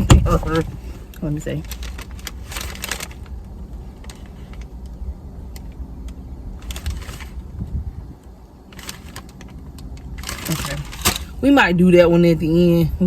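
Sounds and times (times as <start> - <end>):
rustle of handling: 0.0 - 11.4
low rumble inside car cabin: 0.0 - 13.0.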